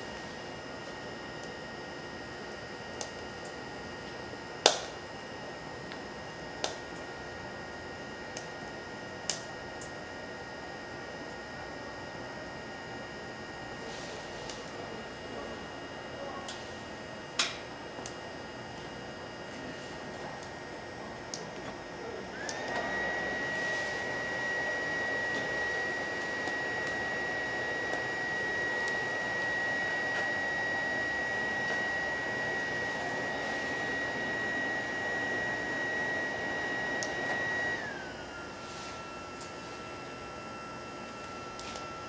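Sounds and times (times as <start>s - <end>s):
fan whining: 0.0s - 42.0s.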